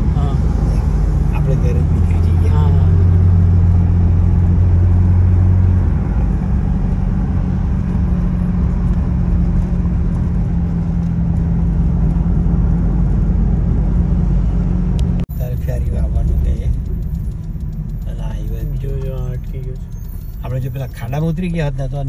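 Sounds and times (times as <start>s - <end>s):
deep hum: 0.0s - 22.0s
road rumble: 0.0s - 22.0s
vehicle engine drone: 0.0s - 22.0s.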